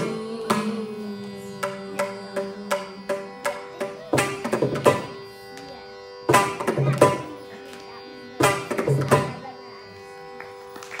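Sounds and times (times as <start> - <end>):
steady drone: 0.0 - 11.0.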